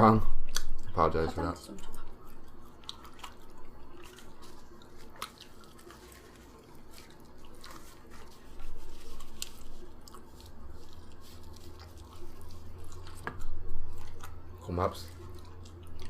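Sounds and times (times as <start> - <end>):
chewing: 0.4 - 16.0.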